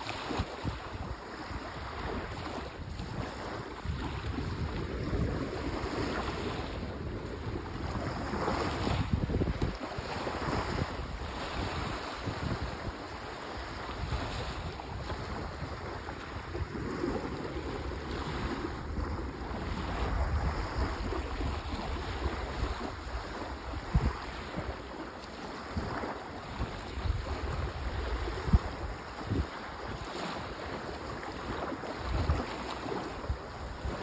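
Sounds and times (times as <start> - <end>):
small waves lapping at shore: 0.0 - 34.0
wind buffeting microphone: 0.0 - 34.0.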